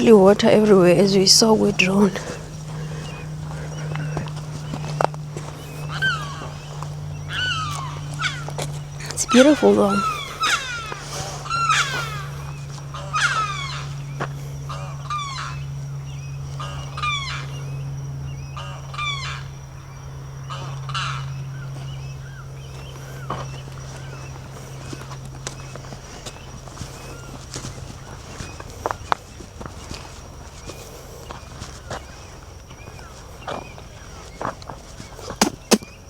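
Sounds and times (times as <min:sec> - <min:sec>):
birds honking: 0:00.0 - 0:36.0
faint high insect-like tone: 0:00.0 - 0:36.0
steady low hum: 0:00.0 - 0:36.0.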